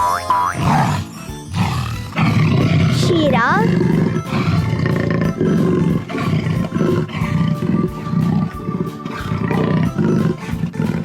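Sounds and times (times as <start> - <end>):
background music: 0.0 - 11.0
big cat roaring and growling: 0.6 - 11.0.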